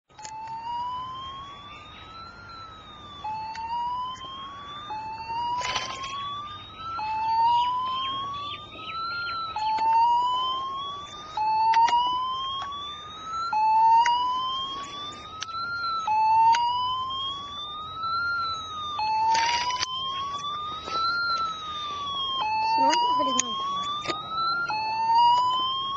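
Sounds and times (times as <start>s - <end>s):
fire engine siren wailing: 0.1s - 25.9s.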